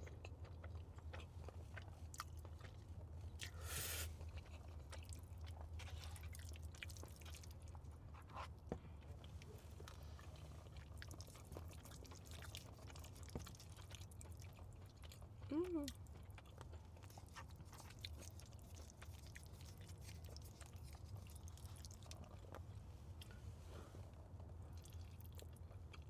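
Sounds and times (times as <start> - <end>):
chewing with wet mouth clicks: 0.0 - 23.4, 24.1 - 26.0.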